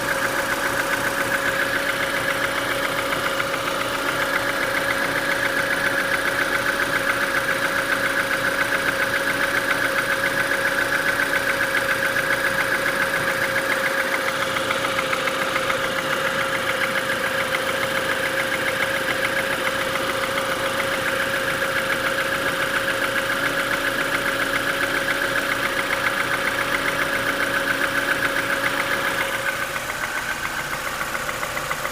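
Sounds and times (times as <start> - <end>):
car engine idling with knock: 0.0 - 31.9.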